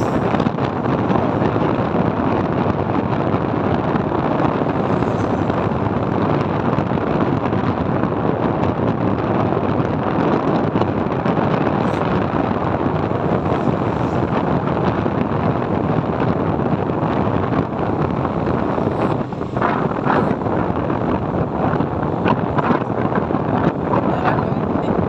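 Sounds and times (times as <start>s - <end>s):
motorbike running: 0.0s - 25.0s
wind rushing over microphone: 0.0s - 25.0s.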